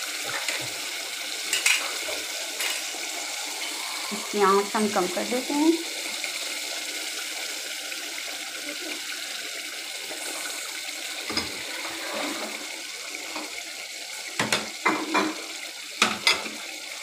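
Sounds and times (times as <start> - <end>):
gravy bubbling and sizzling: 0.0 - 17.0.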